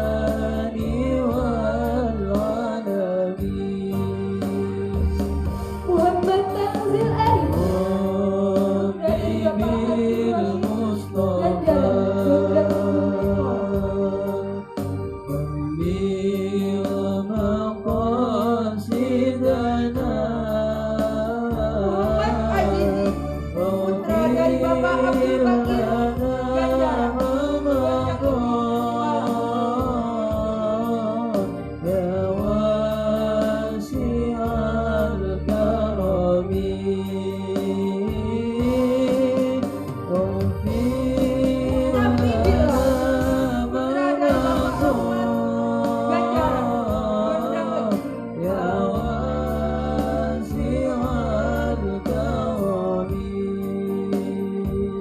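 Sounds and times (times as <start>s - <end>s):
male group singing: 0.0s - 6.0s, 6.8s - 55.0s
instrumental accompaniment: 0.0s - 55.0s.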